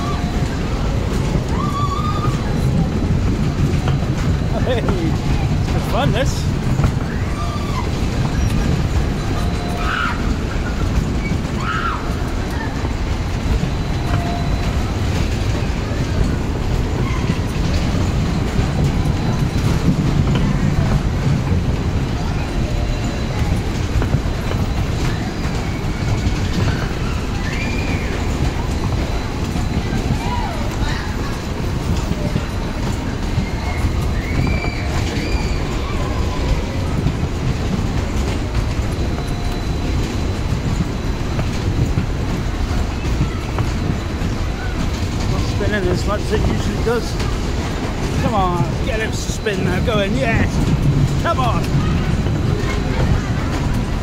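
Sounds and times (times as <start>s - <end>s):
fairground ride cars rumbling: 0.0s - 54.0s.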